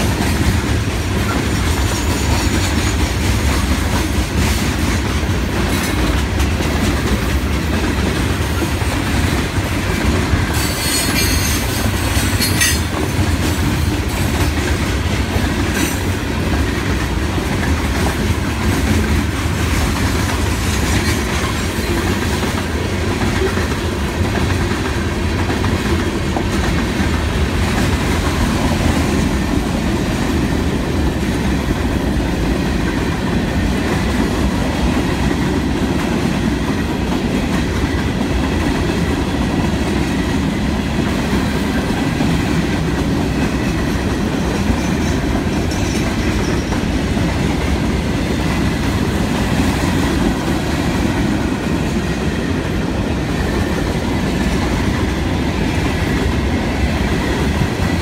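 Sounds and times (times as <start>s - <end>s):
freight train cars rumbling past: 0.0s - 58.0s.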